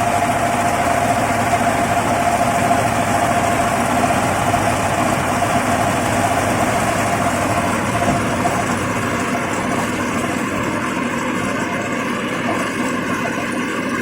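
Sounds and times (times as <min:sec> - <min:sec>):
combine harvester engine running: 0:00.0 - 0:14.0
machinery whine: 0:00.0 - 0:14.0.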